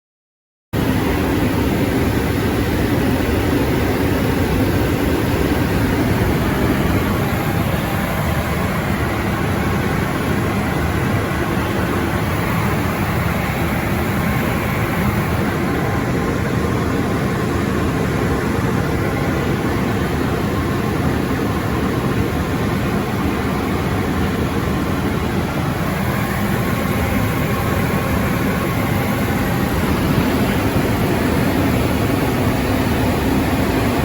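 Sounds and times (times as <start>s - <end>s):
propeller plane engine drone: 0.8s - 34.0s.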